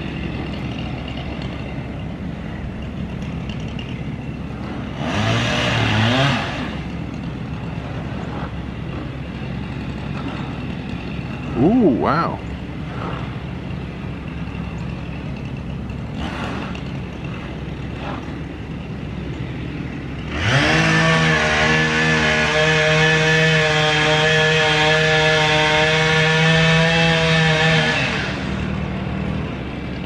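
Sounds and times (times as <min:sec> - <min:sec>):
low engine hum: 0:00.0 - 0:30.0
chainsaw revving: 0:02.8 - 0:30.0.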